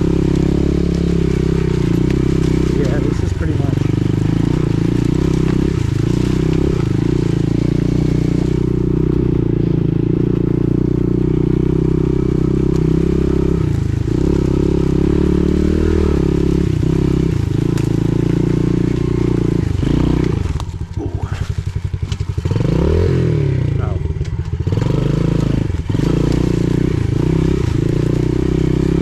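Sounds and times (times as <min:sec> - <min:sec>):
pit bike engine running: 0:00.0 - 0:29.0.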